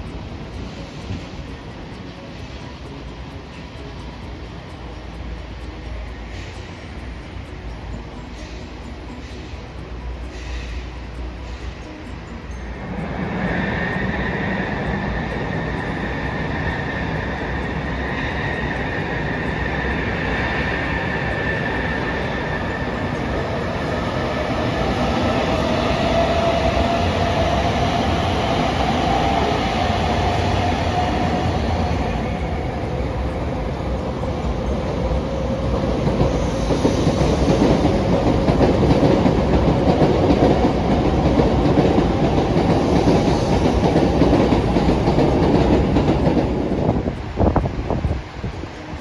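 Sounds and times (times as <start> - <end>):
train wheels clattering on track: 0.0 - 49.0.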